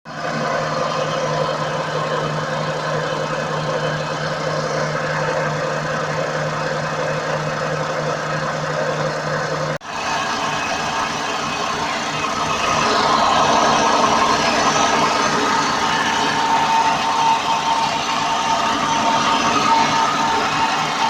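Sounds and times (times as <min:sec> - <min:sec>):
wheel bearing humming drone: 0:00.1 - 0:21.0.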